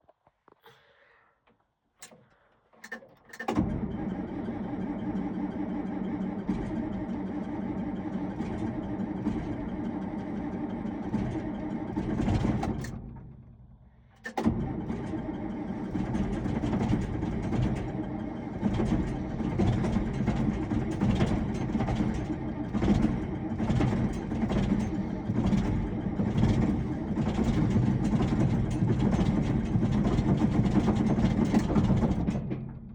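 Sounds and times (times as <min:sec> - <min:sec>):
diesel tractor engine running: 0:03.5 - 0:32.9.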